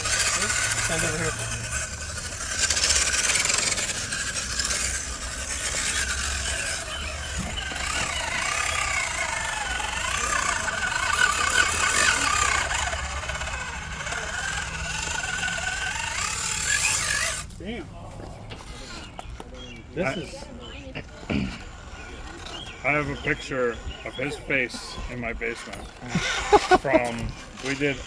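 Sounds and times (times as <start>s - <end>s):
toy car motor whining: 0.0s - 28.0s.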